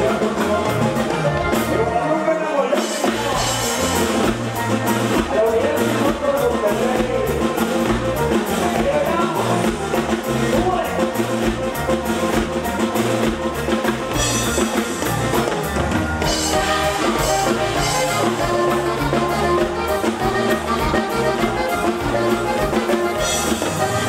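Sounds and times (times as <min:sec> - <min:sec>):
live band music: 0:00.0 - 0:24.0
drum kit beat: 0:02.7 - 0:24.0.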